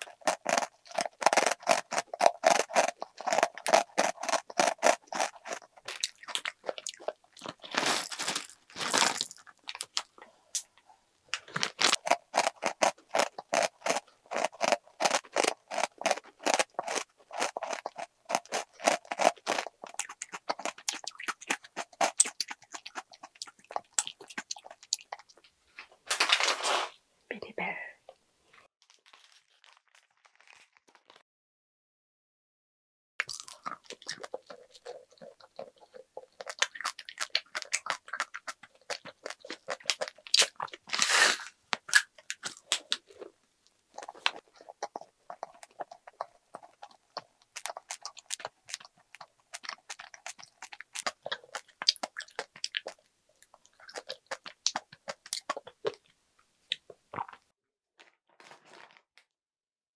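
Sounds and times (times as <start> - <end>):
chewing and crunching snack: 0.0 - 27.0, 28.1 - 31.2, 33.2 - 59.3.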